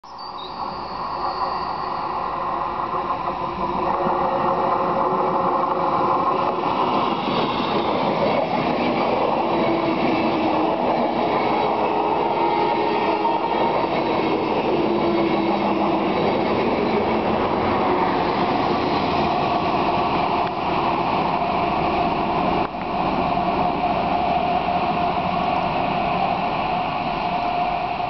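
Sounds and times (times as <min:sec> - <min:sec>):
diesel locomotive engine under load: 0:00.3 - 0:28.0
wheels rumbling on rails: 0:00.3 - 0:28.0.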